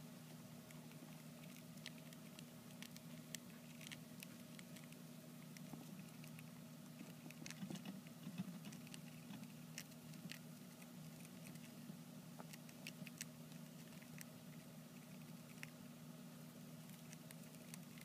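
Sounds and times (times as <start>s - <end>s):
hamsters gnawing seeds: 0.0s - 18.0s
steady low hum: 0.0s - 18.0s.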